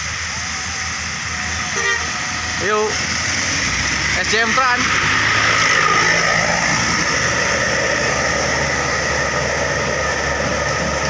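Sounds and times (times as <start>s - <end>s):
bus diesel engine: 0.0s - 11.0s
road hiss: 0.0s - 11.0s.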